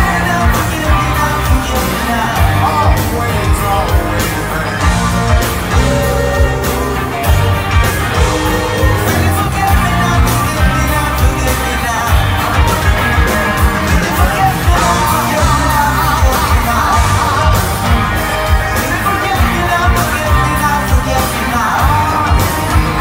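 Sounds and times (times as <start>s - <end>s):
live rock band playing: 0.0s - 23.0s
person singing: 0.0s - 23.0s.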